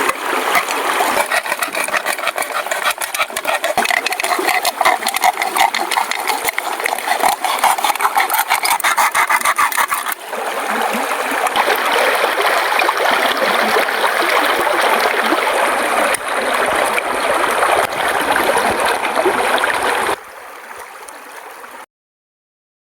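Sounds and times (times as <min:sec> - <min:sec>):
rushing water-like noise: 0:00.0 - 0:21.8.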